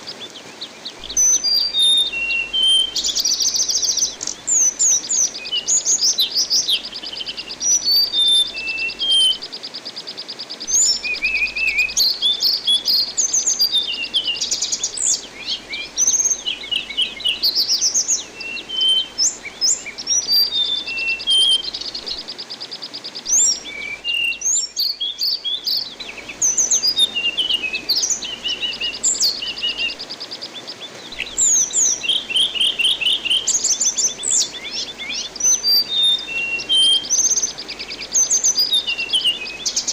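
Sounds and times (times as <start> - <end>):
running water: 0.0 - 39.9
songbird chirping and trilling: 0.0 - 39.9.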